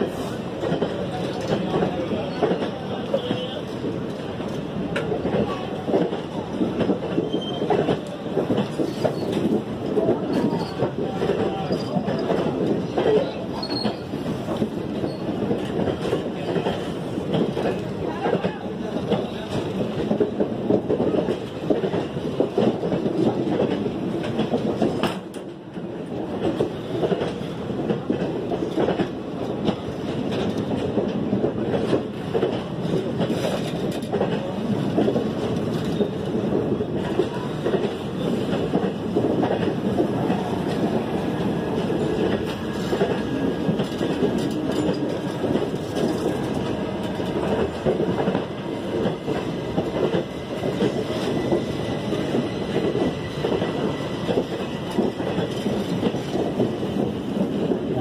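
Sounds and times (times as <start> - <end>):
train rumbling past: 0.0 - 58.0
wheels clacking over rail joints: 0.6 - 58.0.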